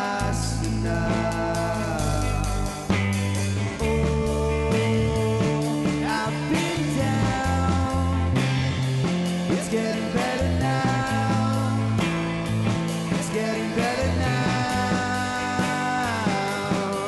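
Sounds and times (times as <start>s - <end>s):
bass line: 0.0s - 17.0s
drums: 0.0s - 17.0s
electric guitars: 0.0s - 17.0s
rock band playing: 0.0s - 17.0s.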